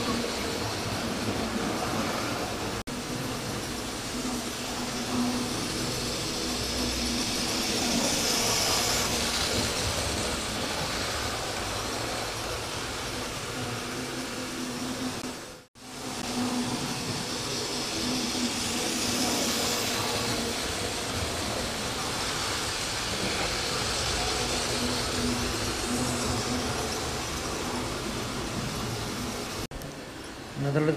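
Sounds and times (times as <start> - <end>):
model trains running: 0.0 - 30.9.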